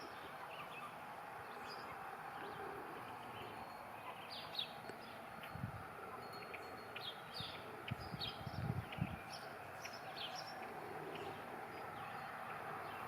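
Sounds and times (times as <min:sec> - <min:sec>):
outdoor background hiss: 0:00.0 - 0:13.0
small birds chirping: 0:00.0 - 0:13.0.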